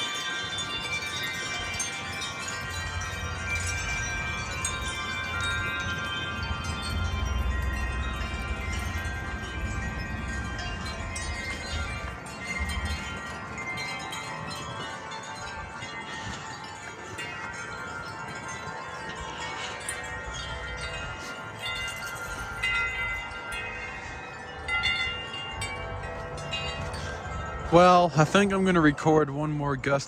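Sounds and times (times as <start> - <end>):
low wind rumble: 0.0 - 30.0
wind chimes ringing: 0.0 - 30.0.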